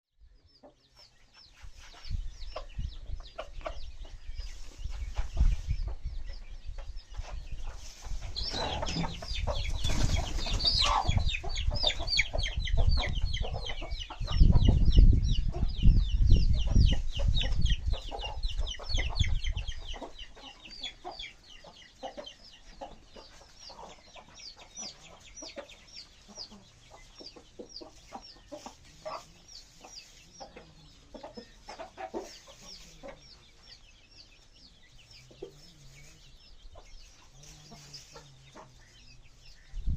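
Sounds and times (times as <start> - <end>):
chickens clucking and calling: 0.2 - 39.9.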